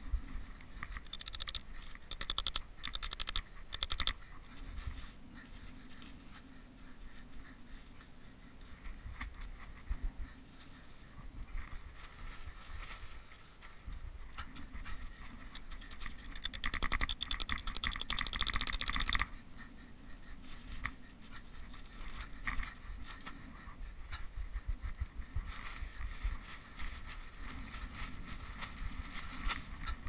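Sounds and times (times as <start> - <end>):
wind rumble on microphone: 0.0 - 2.1, 3.4 - 16.5, 19.2 - 30.0.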